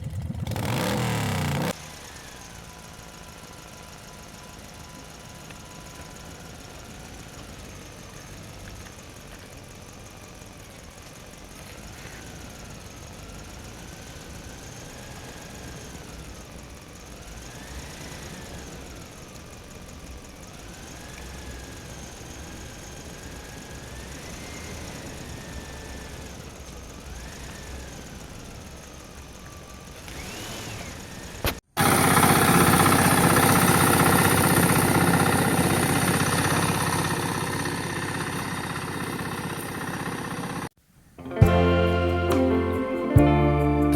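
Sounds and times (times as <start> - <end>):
loud steady engine sound: 0.0 - 40.8
small tractor motor whining: 0.0 - 43.9.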